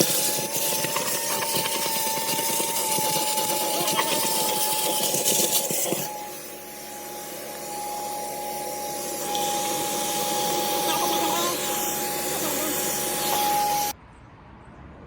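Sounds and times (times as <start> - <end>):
shop vacuum running: 0.0 - 14.0.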